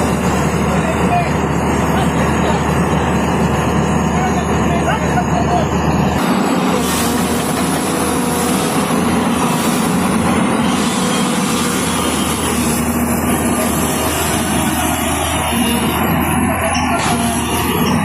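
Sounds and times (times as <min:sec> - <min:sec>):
heavy truck engine running: 0:00.0 - 0:18.0
road noise: 0:00.0 - 0:18.0.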